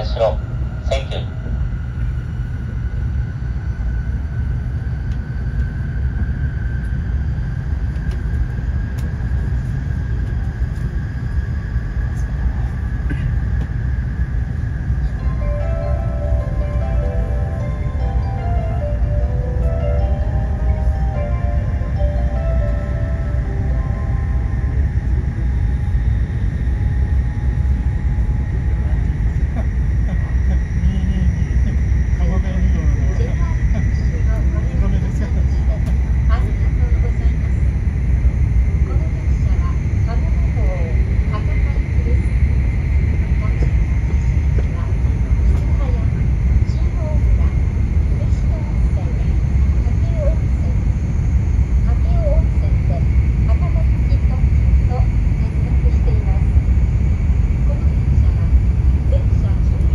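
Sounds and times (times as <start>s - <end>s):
high whine: 0.0s - 59.9s
train low rumble: 0.0s - 59.9s.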